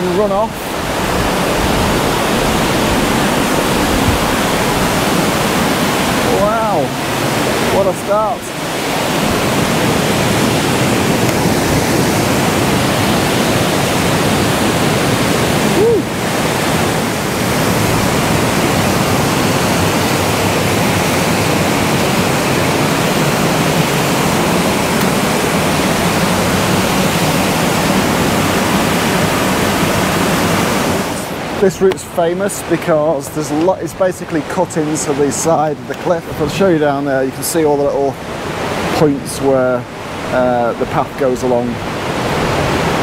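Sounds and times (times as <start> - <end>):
waterfall and river rushing: 0.0 - 43.0.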